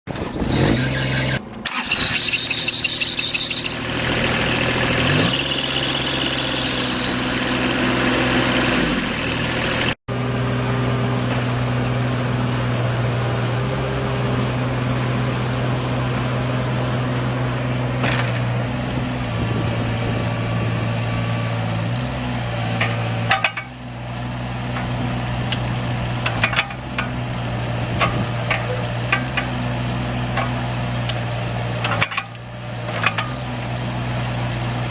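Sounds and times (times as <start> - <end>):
excavator diesel engine: 0.1 - 34.9.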